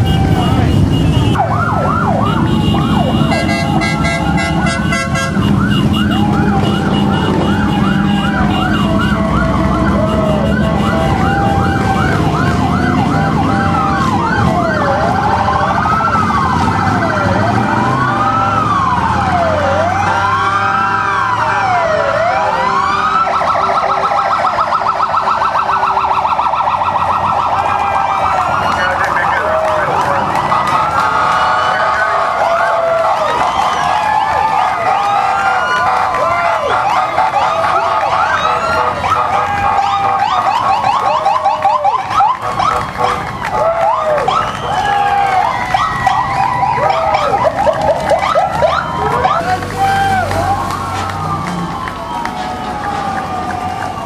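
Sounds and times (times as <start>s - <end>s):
emergency vehicle sirens: 0.0s - 54.0s
motorcycle engines rumbling: 0.0s - 54.0s.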